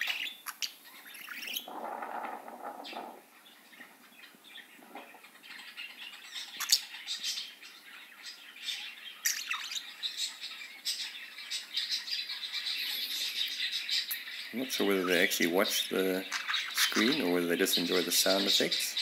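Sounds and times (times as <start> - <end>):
budgerigars chattering and chirping: 0.0 - 1.8, 2.8 - 19.0.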